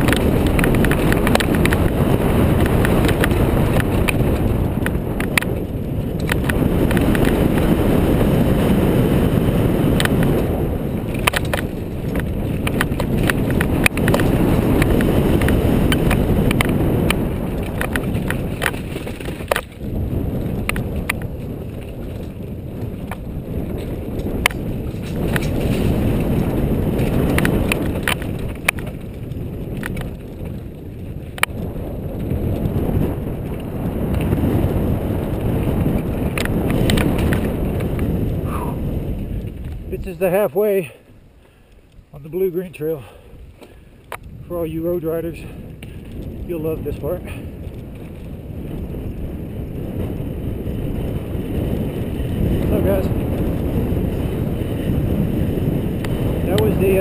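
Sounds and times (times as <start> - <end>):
bike rattling over bumps: 0.0 - 57.0
wind buffeting microphone: 0.0 - 57.0.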